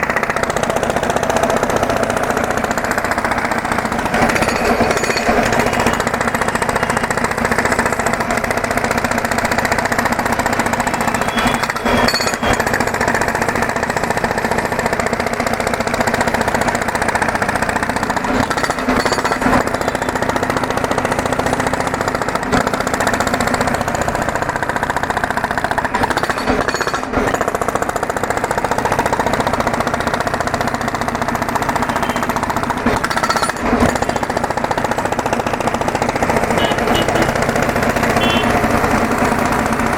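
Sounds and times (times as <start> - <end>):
road drill hammering: 0.0 - 39.9.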